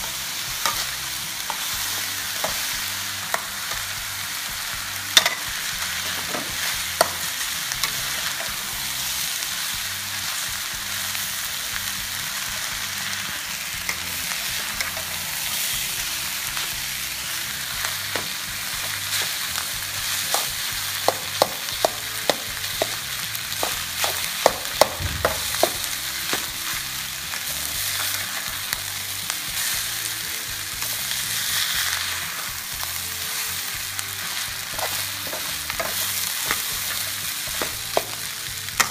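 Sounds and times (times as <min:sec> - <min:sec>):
rice sizzling in a wok: 0:00.0 - 0:38.9.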